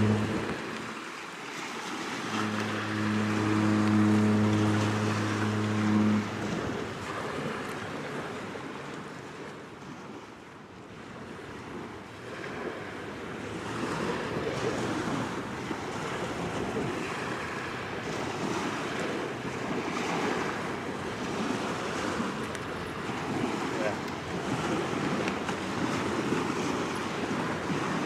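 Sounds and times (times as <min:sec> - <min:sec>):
waves washing on shore: 0:00.0 - 0:28.0.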